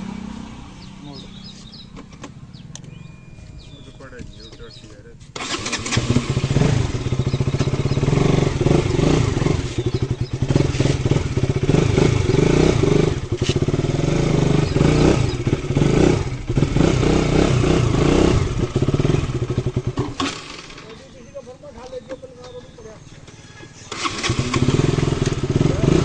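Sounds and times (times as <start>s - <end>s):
motorcycle engine riding off: 0.0s - 26.0s.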